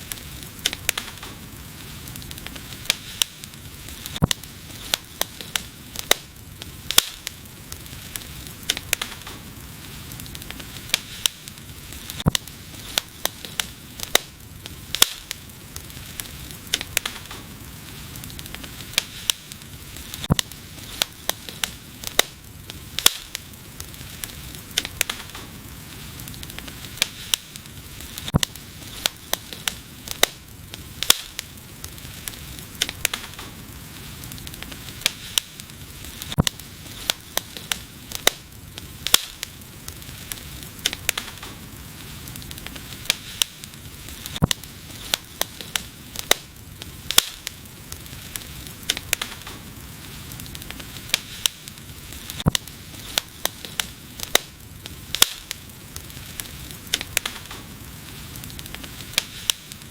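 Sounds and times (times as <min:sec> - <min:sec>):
fire crackling and popping: 0:00.0 - 0:59.9
flames rushing and hissing: 0:00.0 - 0:59.9.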